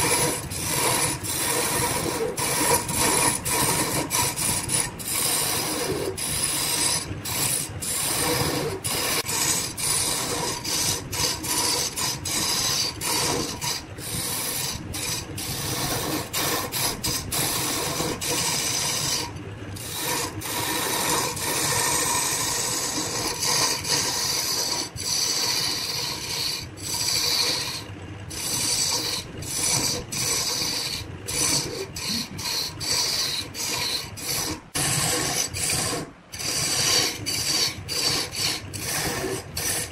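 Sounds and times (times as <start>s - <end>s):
chisel scraping spinning wood: 0.0s - 39.9s.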